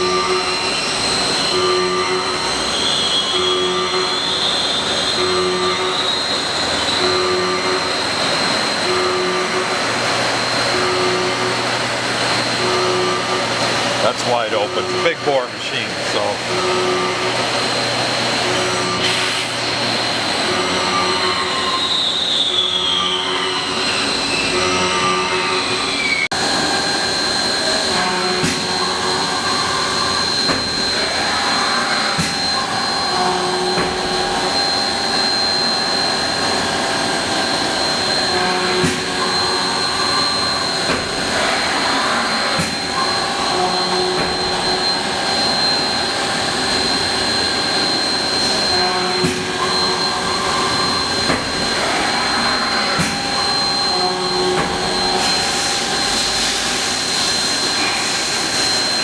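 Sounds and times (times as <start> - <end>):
lathe whining: 0.0 - 59.0.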